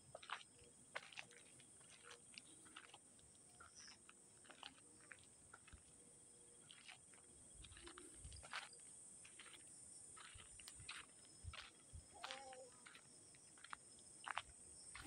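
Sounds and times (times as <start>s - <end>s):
footsteps on gravel: 0.1s - 3.0s, 3.6s - 5.9s, 6.6s - 15.0s.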